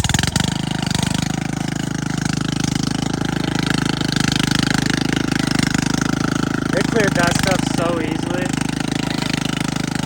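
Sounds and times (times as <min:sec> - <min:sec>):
mower cutting grass: 0:00.0 - 0:10.0
mower engine running: 0:00.0 - 0:10.0.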